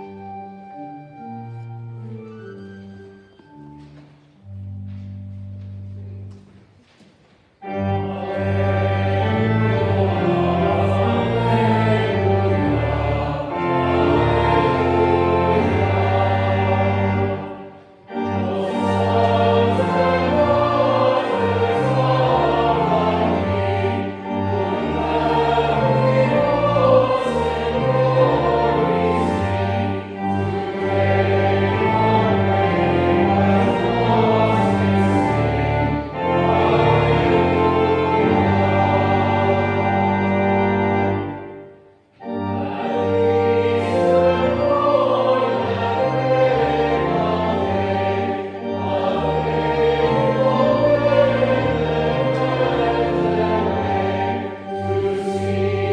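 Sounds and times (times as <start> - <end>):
instrumental accompaniment: 0.0 - 55.9
voices singing a hymn: 7.6 - 55.9.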